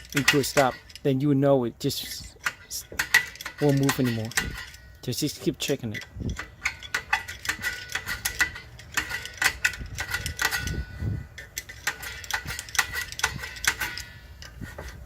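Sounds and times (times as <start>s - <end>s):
brake adjuster clicking with metallic ring: 2.1s - 15.0s.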